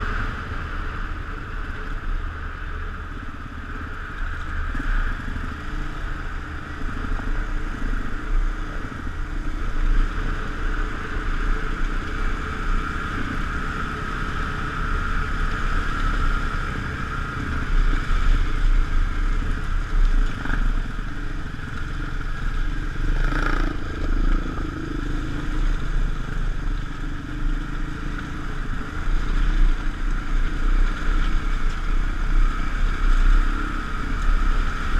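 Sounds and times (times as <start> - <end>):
motorcycle engine: 0.0 - 34.9
motorcycle exhaust: 0.0 - 34.9.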